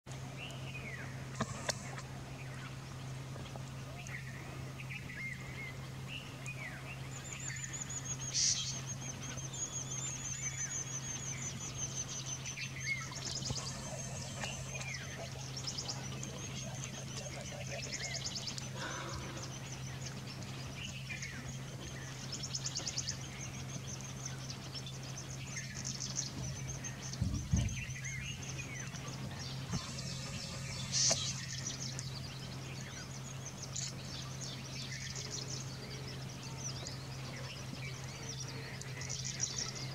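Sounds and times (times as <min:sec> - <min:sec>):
birds chirping: 0:00.1 - 0:39.9
low hum: 0:00.1 - 0:39.9.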